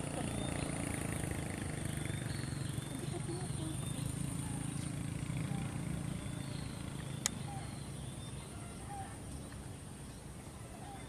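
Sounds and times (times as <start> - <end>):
bird chirps: 0.0 - 11.0
low engine hum: 0.0 - 11.0.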